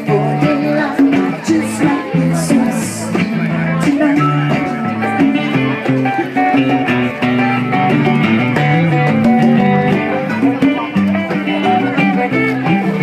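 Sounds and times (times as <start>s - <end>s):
guitar plucked strings: 0.0s - 13.0s
live band playing: 0.0s - 13.0s.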